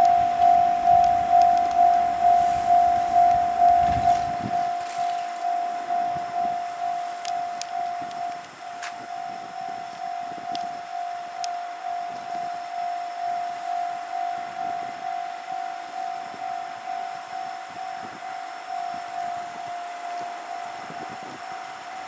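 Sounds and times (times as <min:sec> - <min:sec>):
level crossing electronic bell: 0:00.0 - 0:22.0.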